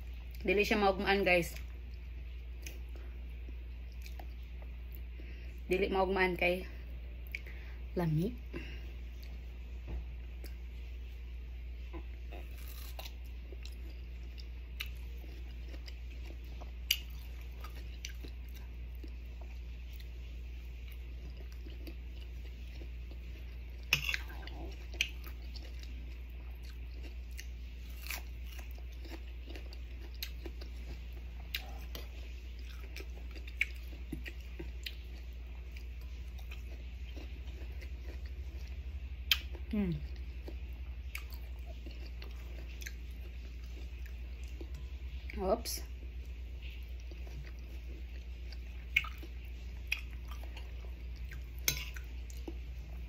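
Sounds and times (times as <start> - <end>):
steady low hum: 0.0 - 53.0
crunching and chewing mango: 1.4 - 5.2, 11.8 - 45.4, 46.0 - 53.0.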